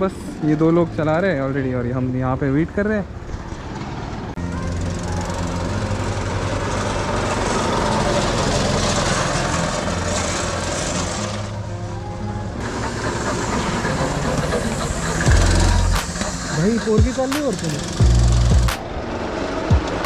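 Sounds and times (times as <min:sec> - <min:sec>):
go-kart engines buzzing: 0:00.0 - 0:20.0.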